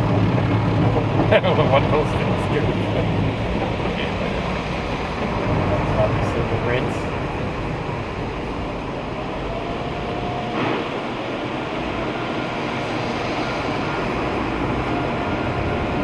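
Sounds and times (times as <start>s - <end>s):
car wash rushing noise: 0.0s - 16.0s.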